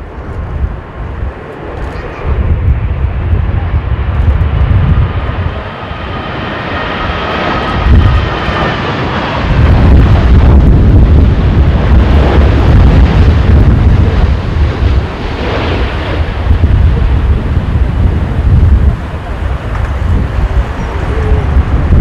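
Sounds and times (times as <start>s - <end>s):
jet engines whining: 0.0s - 22.0s
wind buffeting microphone: 0.0s - 22.0s.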